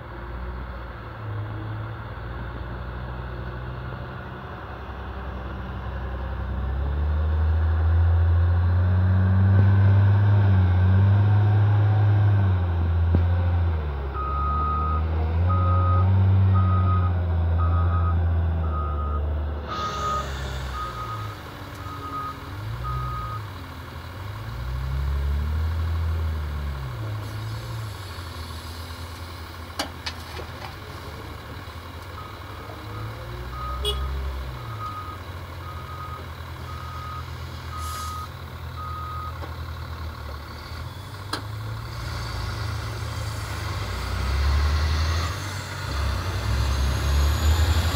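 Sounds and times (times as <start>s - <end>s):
loader diesel engine revving: 0.0s - 47.9s.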